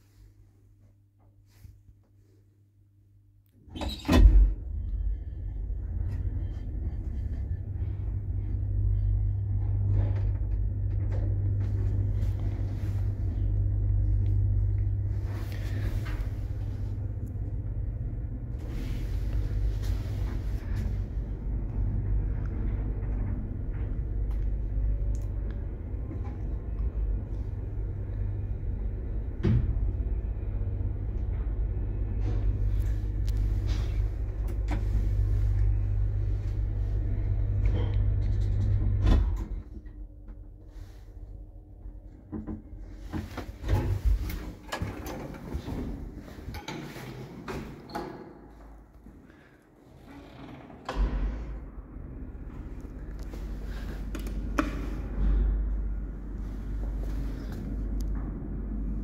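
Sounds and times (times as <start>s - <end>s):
lift low hum and rumble: 0.0s - 59.0s.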